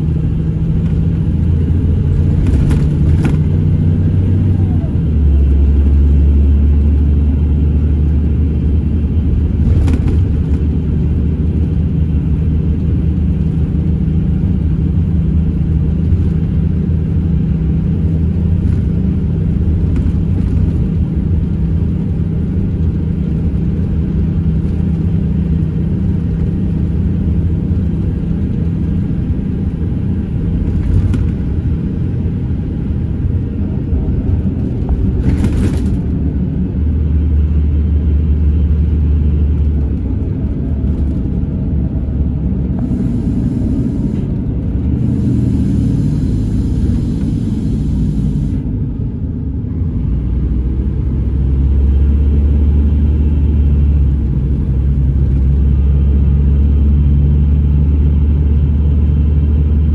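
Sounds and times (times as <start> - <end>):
bus engine drone: 0.0 - 59.9
road rumble: 0.0 - 59.9.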